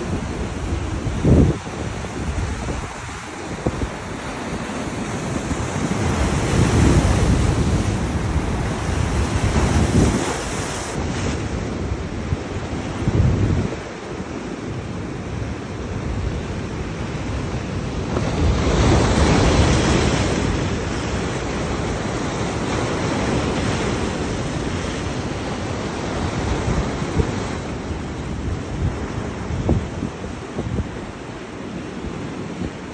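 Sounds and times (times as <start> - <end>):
wind buffeting microphone: 0.0 - 14.4, 16.0 - 32.9
ocean surf breaking on rocks: 0.0 - 32.9.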